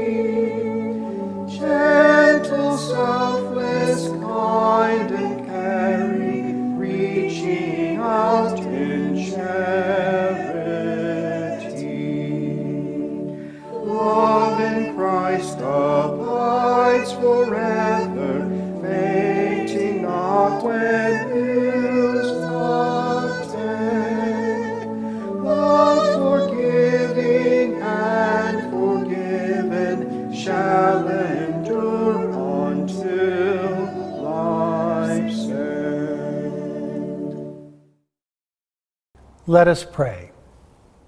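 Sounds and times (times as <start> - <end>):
voices singing a slow hymn: 0.0 - 37.7.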